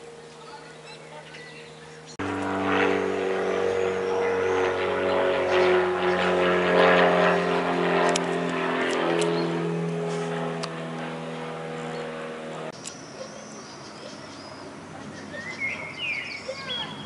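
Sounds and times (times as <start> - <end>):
propeller aircraft engine drone: 0.0 - 17.0.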